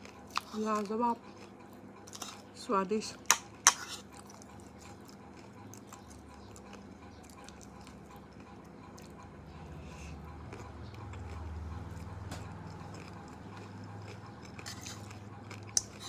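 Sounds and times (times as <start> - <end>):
person chewing crunchy snack: 0.0 - 2.5, 3.1 - 16.0.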